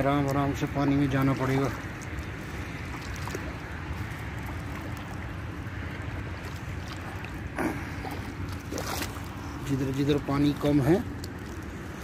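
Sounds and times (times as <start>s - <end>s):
feet sloshing through water: 0.0s - 12.0s.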